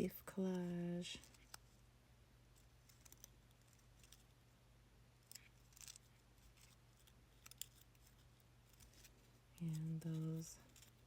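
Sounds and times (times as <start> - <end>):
low steady hum: 0.0 - 11.0
faint clicks and scrapes: 0.4 - 1.9, 2.5 - 4.4, 5.2 - 11.0.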